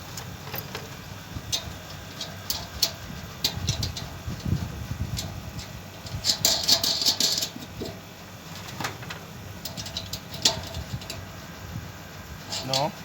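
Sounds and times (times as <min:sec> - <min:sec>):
metal clicks and scraping: 0:00.0 - 0:11.3, 0:12.4 - 0:13.0.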